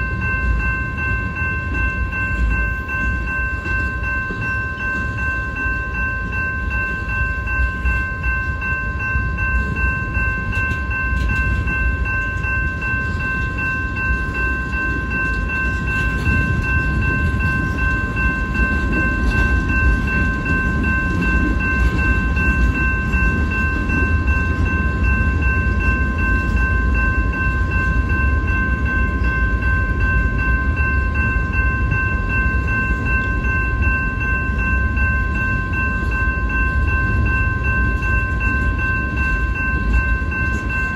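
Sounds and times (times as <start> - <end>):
high ringing tone: 0.0 - 40.9
train wheels rumbling on rail: 0.0 - 40.9.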